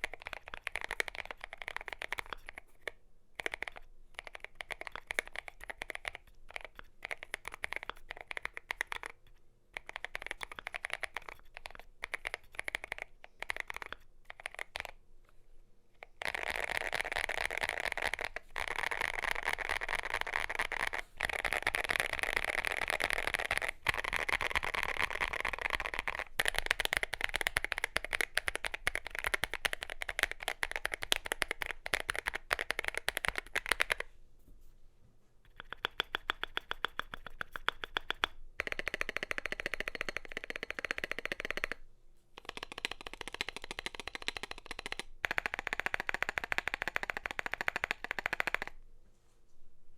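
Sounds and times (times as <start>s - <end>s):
mechanical keyboard typing: 0.0s - 15.0s, 16.1s - 34.1s, 35.5s - 41.8s, 42.4s - 48.8s.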